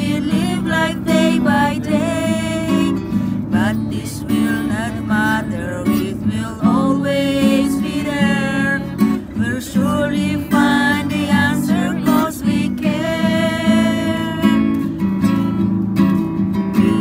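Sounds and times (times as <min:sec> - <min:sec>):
people singing a hymn: 0:00.0 - 0:15.3, 0:16.7 - 0:17.0
acoustic guitar strumming chords: 0:00.0 - 0:17.0.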